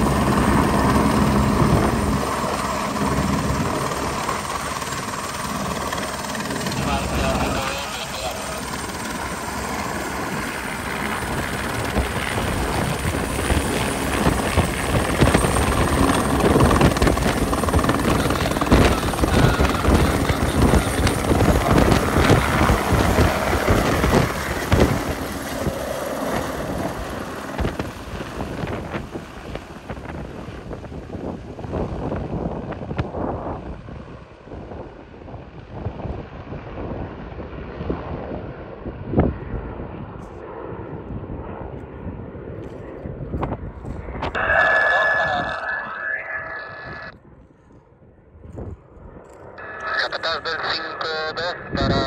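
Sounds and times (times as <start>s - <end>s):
helicopter turbine and rotor: 0.0s - 52.0s.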